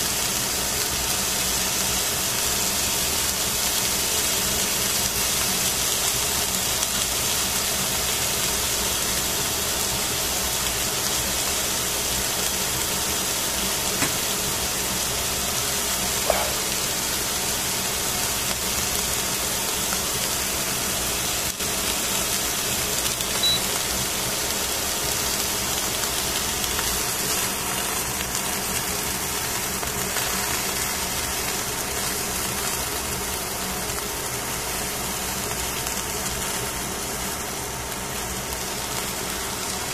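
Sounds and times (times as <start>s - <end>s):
fish frying sizzle: 0.0s - 39.9s.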